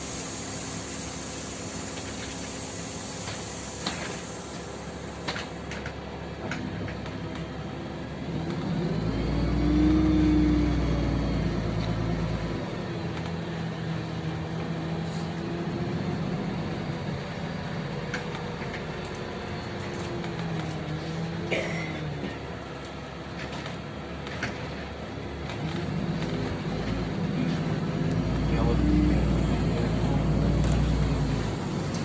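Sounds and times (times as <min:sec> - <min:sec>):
bus engine drone: 0:00.0 - 0:32.0.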